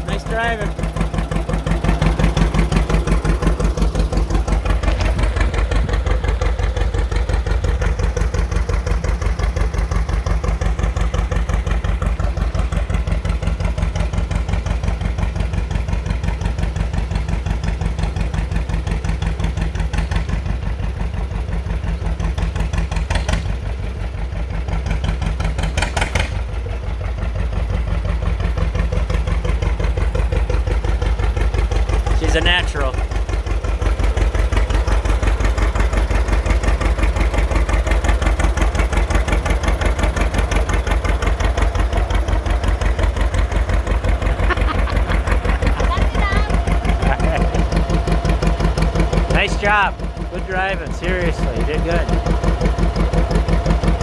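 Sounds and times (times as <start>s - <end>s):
tractor engine pulsing exhaust: 0.0s - 54.0s.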